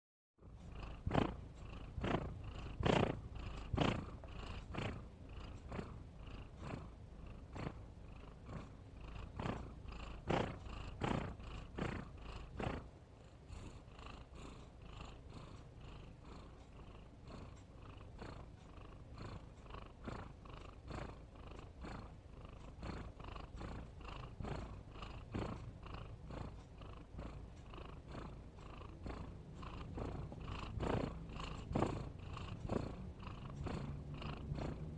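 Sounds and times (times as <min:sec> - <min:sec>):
cat snoring: 0:00.4 - 0:34.9.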